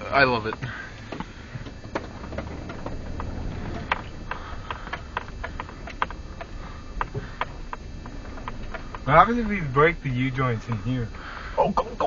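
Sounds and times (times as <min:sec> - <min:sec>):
car engine running low: 0:00.0 - 0:12.0
sharp clicks and knocks: 0:00.4 - 0:11.2.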